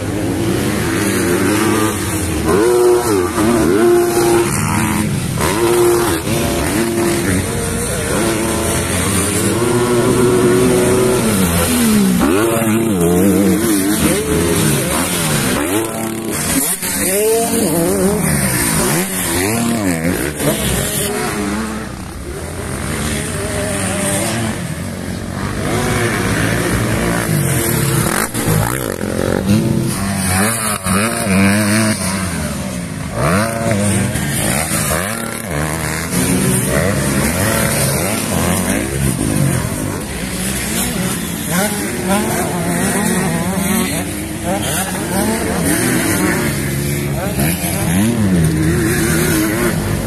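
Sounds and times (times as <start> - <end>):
dirt bike engines revving: 0.0 - 50.0.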